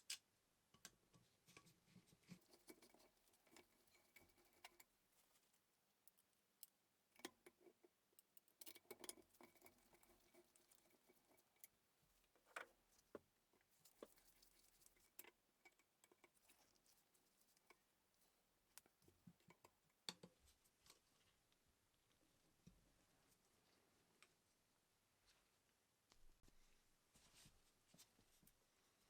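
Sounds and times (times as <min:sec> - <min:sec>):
faint small clicks and taps: 0:00.0 - 0:24.4.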